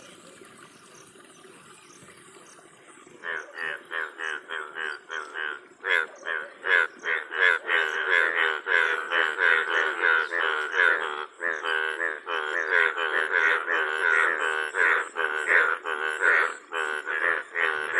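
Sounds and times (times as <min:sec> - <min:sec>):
frogs calling: 0:00.0 - 0:17.9.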